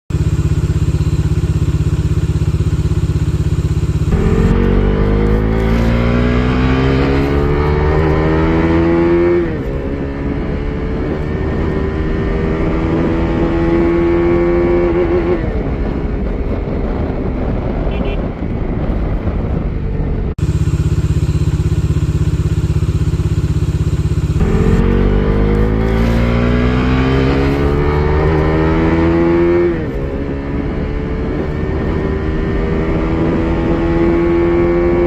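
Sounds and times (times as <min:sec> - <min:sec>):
motorcycle engine revving: 0:00.1 - 0:35.0.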